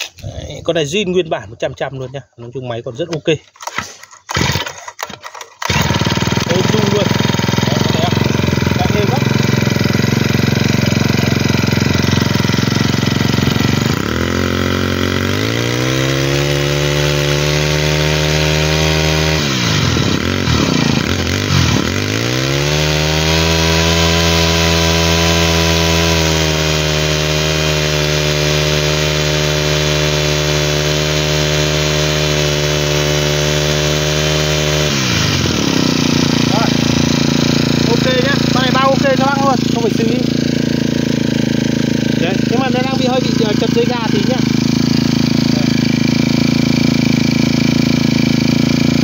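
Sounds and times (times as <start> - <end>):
brushcutter engine running: 3.5 - 49.0.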